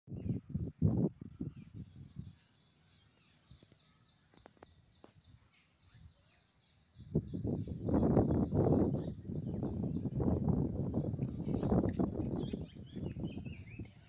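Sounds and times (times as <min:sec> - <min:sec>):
birds chirping: 0:00.1 - 0:14.0
insects chirping: 0:00.1 - 0:14.0.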